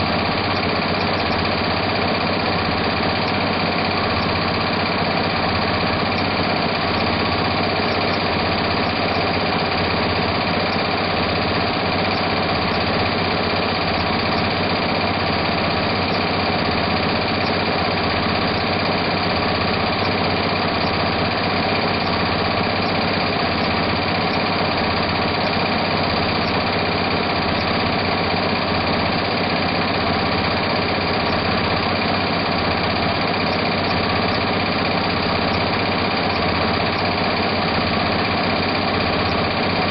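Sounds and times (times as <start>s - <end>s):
embroidery machine stitching clatter: 0.0s - 39.9s.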